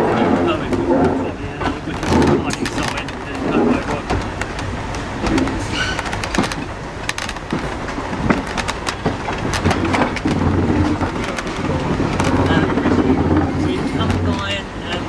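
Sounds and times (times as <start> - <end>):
train wagon rumbling on track: 0.0 - 15.0
wheels clanking over rail joints: 0.0 - 15.0.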